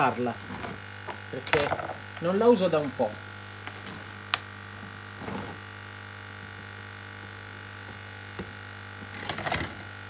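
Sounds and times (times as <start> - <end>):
hot air blower humming: 0.0 - 10.0.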